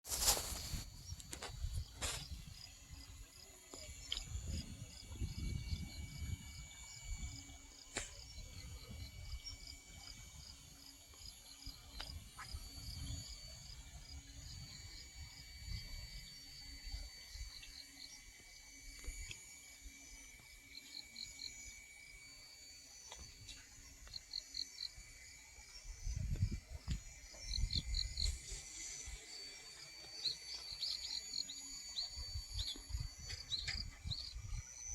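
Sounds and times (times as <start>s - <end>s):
high-pitched insect trilling: 0.1s - 34.9s
insects chirping: 0.1s - 34.9s.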